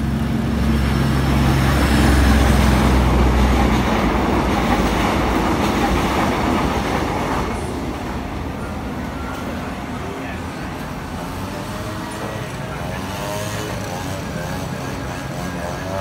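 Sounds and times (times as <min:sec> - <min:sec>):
train engine hum: 0:00.0 - 0:16.0
train wheels rumbling on rails: 0:00.0 - 0:16.0.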